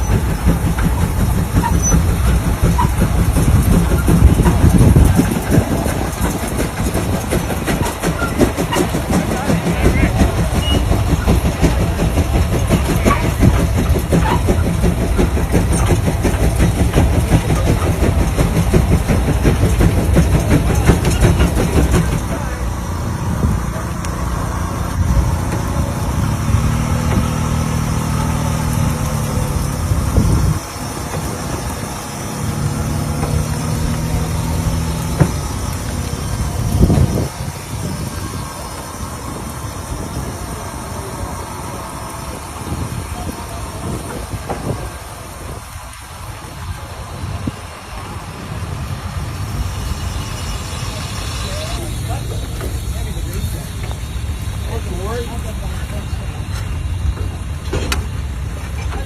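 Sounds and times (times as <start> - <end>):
heavy engine chugging: 0.0 - 59.0.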